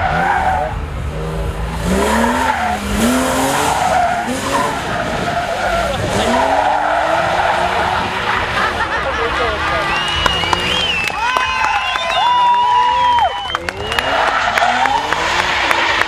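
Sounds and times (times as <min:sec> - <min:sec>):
car engine revving hard: 0:00.0 - 0:11.0, 0:13.7 - 0:16.0
tyres squealing and skidding: 0:00.0 - 0:16.0.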